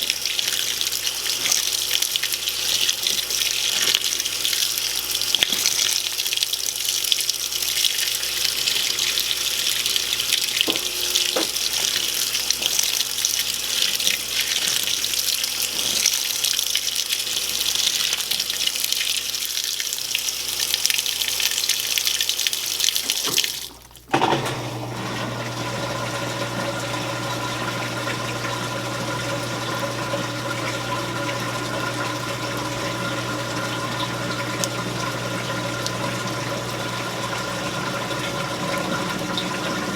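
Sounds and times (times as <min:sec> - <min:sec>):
washing machine motor humming: 0:00.0 - 0:19.6, 0:22.5 - 0:39.9
water spraying into tub: 0:00.0 - 0:39.9.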